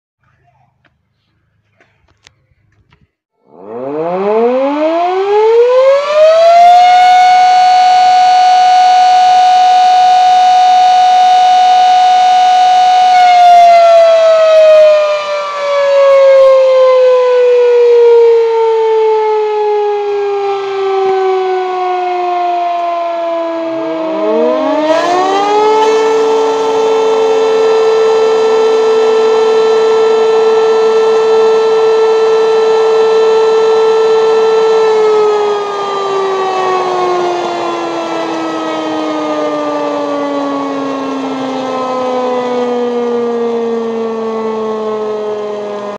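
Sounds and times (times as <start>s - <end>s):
electric rotary siren: 3.4s - 45.9s
larger rotary siren lower tone: 3.4s - 45.9s.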